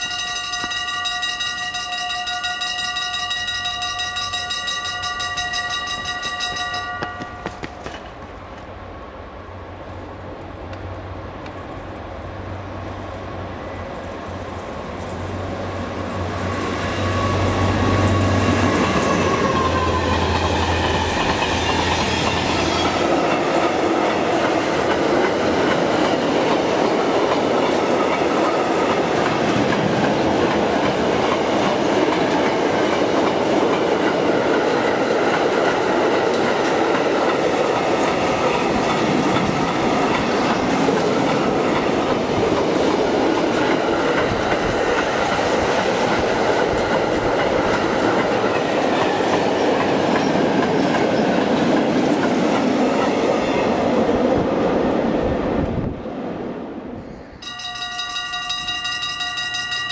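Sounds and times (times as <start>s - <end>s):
train wheels rumbling on rails: 0.0s - 8.9s, 10.2s - 59.9s.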